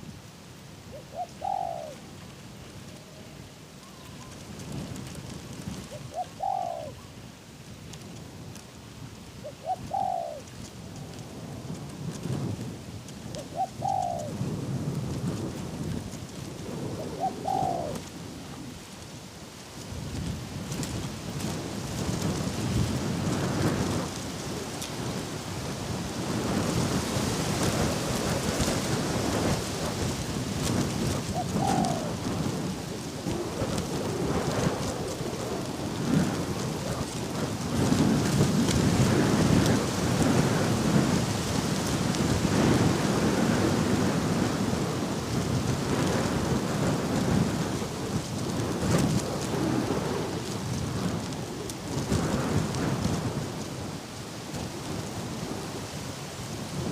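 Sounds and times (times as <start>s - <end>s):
wind buffeting microphone: 0.9s - 56.9s.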